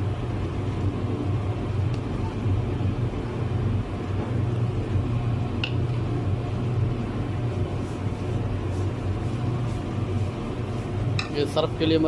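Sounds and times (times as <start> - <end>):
machinery hum and rumble: 0.0 - 12.0.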